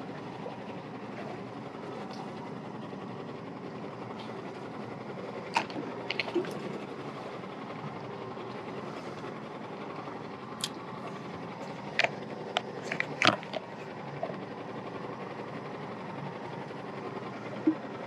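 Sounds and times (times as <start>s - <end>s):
water on open sea: 0.0s - 18.0s.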